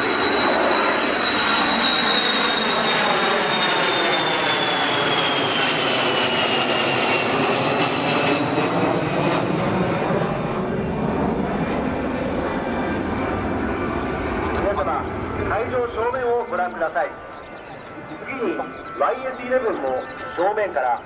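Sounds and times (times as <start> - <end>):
jet aircraft engine whine: 0.0 - 21.0.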